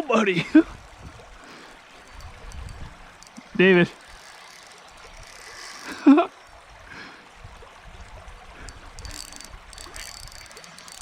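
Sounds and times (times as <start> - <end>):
river water trickling and gurgling: 0.0 - 11.0.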